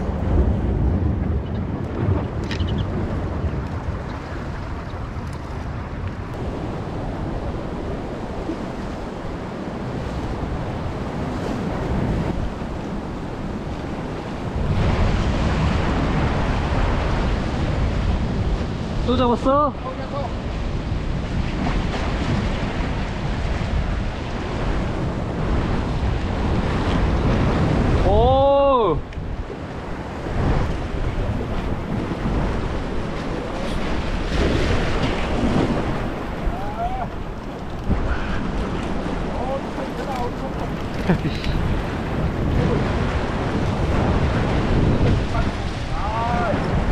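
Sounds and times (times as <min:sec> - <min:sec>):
waves washing against rocks: 0:00.0 - 0:46.9
wind buffeting the microphone: 0:00.0 - 0:46.9.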